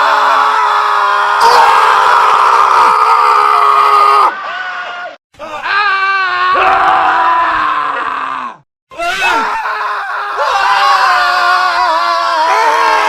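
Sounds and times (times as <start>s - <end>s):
men screaming: 0.0s - 13.0s.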